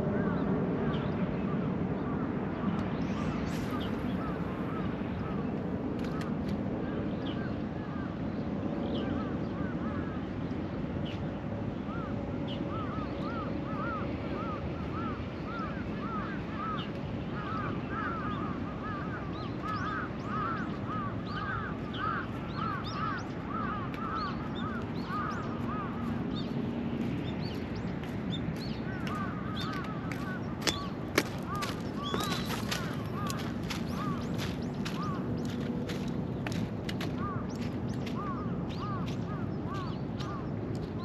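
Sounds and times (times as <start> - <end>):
many birds calling: 0.0 - 41.0
steady background noise: 0.0 - 41.0.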